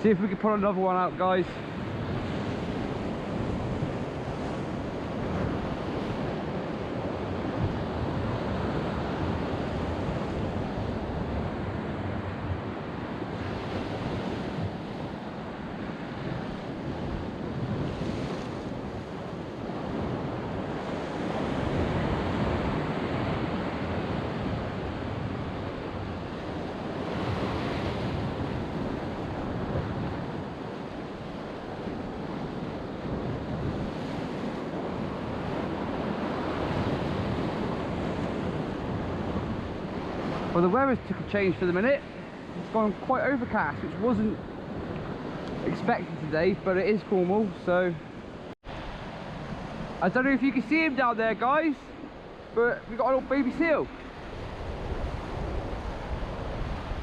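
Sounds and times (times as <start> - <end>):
surf washing against rocks: 0.0 - 57.0
wind buffeting microphone: 0.0 - 57.0.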